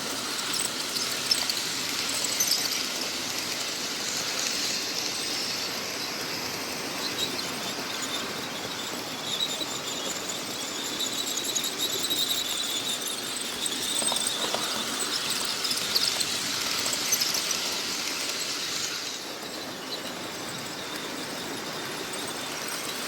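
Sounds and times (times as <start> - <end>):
high-pitched squeal: 0.0 - 23.0
model train rolling: 0.0 - 23.0.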